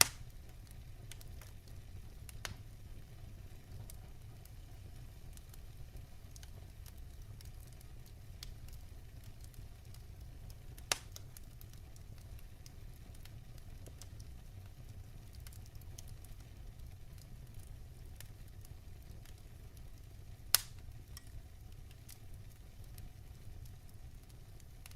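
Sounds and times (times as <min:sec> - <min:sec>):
low fire rumble: 0:00.0 - 0:24.9
wood fire crackling: 0:00.0 - 0:24.9.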